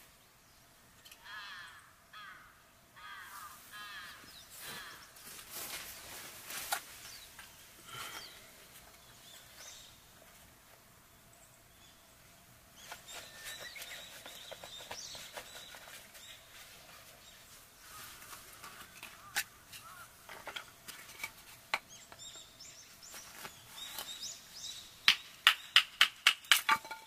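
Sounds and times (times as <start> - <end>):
faint birds calling: 0.0 - 26.4.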